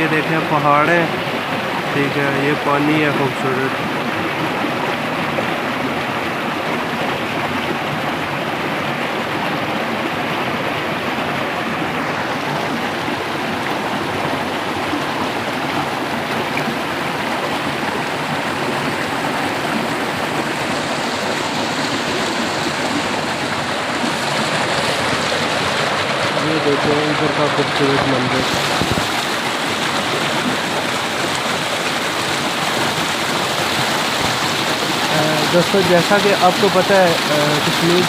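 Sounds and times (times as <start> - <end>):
mountain water rushing: 0.0 - 38.0.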